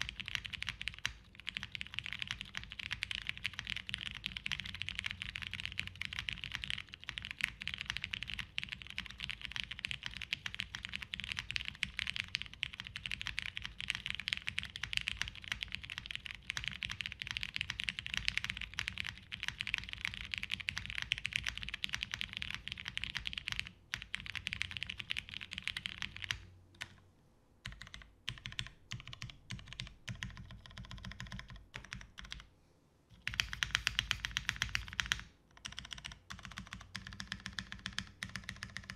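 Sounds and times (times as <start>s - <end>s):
mechanical keyboard typing: 0.0s - 27.0s, 27.6s - 32.5s, 33.2s - 38.9s.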